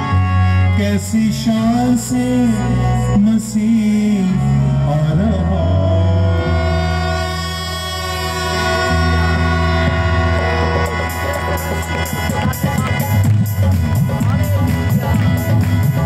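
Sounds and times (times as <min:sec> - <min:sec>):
steady bass line: 0:00.0 - 0:16.0
wavering melody over chords: 0:00.0 - 0:16.0.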